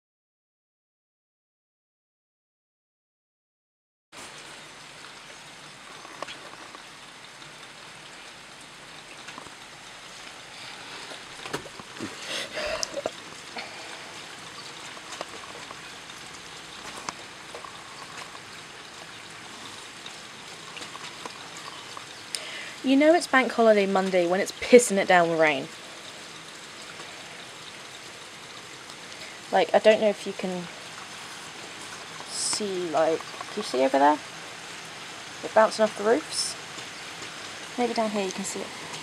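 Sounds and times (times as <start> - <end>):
drips and splashes: 4.2 - 39.0
heavy rain pouring: 4.2 - 39.0.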